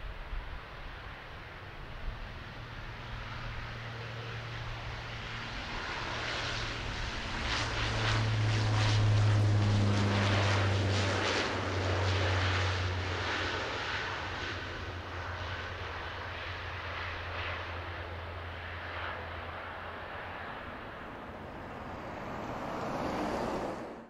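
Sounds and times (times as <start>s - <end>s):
low propeller drone: 0.0s - 24.0s.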